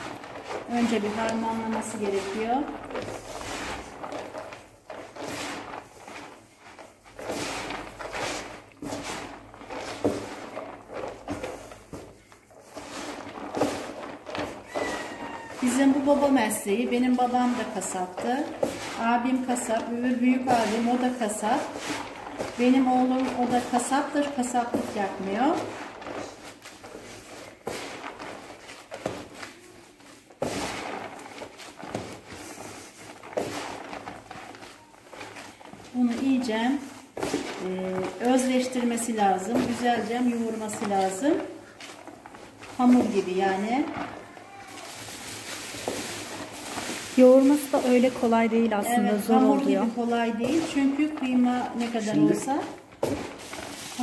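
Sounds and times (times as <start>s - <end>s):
hands mixing ground meat: 0.0s - 54.0s.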